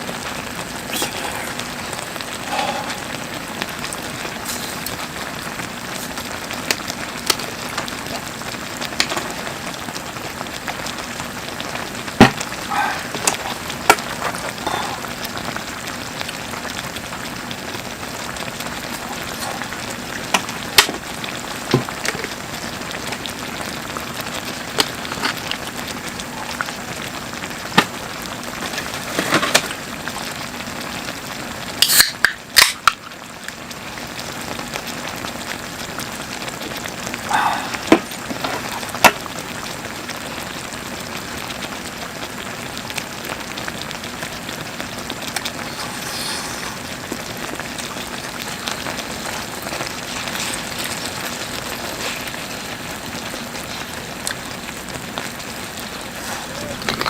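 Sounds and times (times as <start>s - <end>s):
food sizzling in a pan: 0.0s - 57.0s
wood fire crackling: 0.0s - 57.0s.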